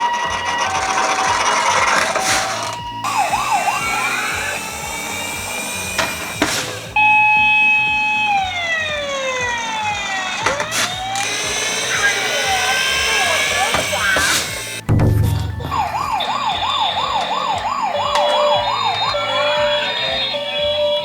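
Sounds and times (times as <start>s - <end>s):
fast wailing siren: 0.0s - 21.0s
siren tone winding down: 0.0s - 21.0s
two-tone siren: 0.0s - 21.0s.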